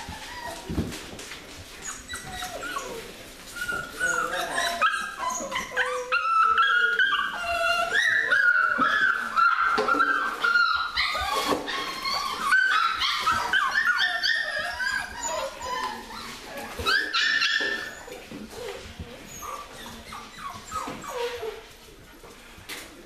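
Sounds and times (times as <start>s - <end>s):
puppies whining and yipping: 0.0s - 21.8s.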